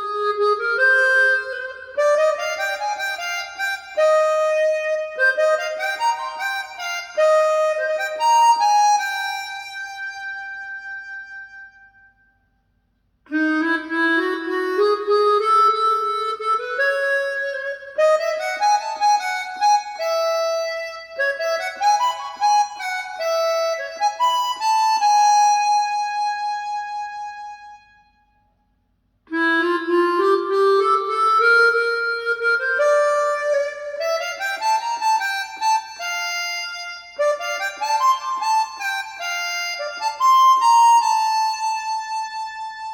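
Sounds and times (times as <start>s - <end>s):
solo harmonica music: 0.0s - 28.4s, 29.3s - 42.9s.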